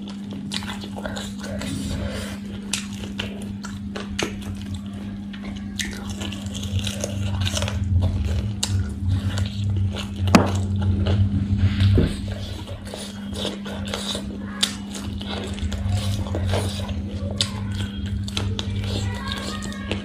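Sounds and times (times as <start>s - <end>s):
biting and chewing: 0.0s - 20.0s
steady low hum: 0.0s - 20.0s.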